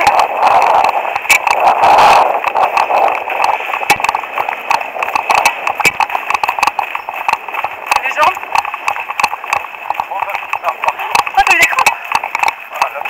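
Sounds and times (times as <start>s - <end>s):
running footsteps on gravel: 0.0s - 13.0s
trekking pole tips clicking: 0.0s - 13.0s
wind rush on microphone: 0.0s - 13.0s.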